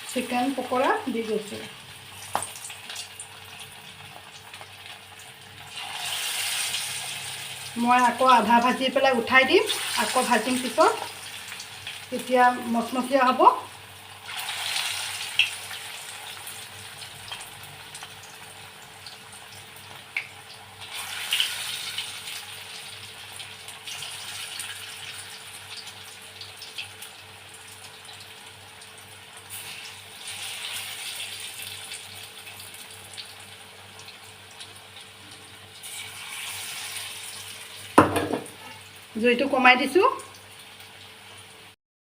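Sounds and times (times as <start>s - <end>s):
food sizzling in hot oil: 0.0s - 41.8s.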